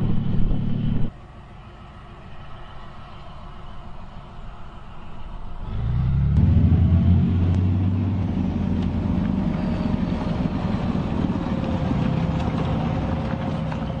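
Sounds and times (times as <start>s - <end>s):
tank diesel engine rumble: 0.0s - 14.0s.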